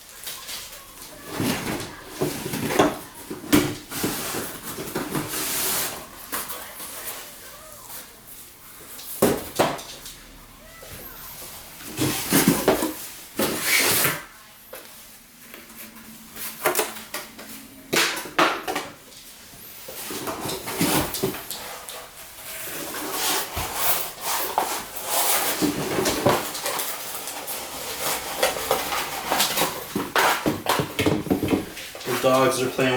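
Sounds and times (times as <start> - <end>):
packaging rustling and scraping: 0.0 - 8.1, 11.0 - 14.3, 15.0 - 32.9.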